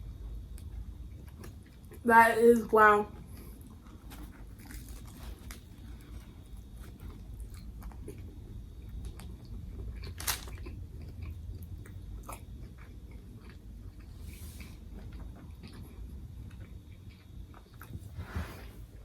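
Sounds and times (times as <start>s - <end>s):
chewing crunchy bread: 0.0s - 2.0s, 3.1s - 18.2s.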